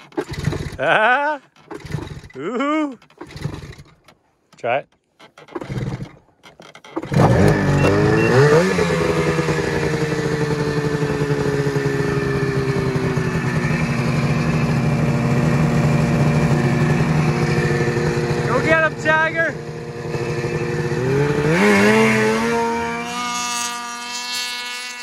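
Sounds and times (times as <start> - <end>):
snowmobile engine starting and idling: 0.0 - 25.0.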